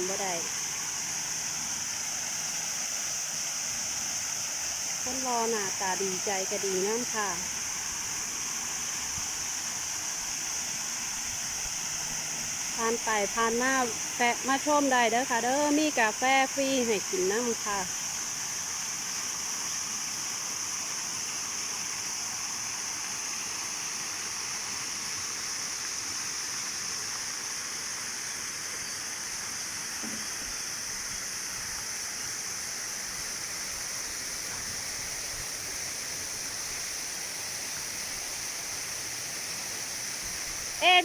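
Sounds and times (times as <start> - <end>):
waterfall rushing into a pond: 0.0 - 41.0.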